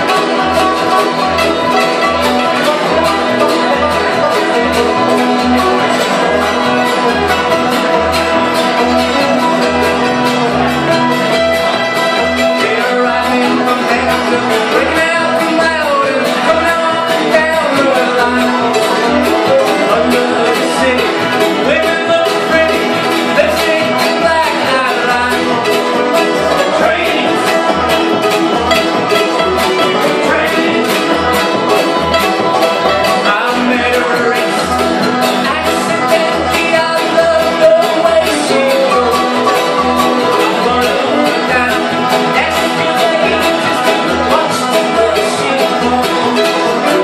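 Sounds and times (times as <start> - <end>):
acoustic guitar: 0.0 - 47.0
banjo: 0.0 - 47.0
fiddle: 0.0 - 47.0
mandolin: 0.0 - 47.0
upright bass: 0.0 - 47.0.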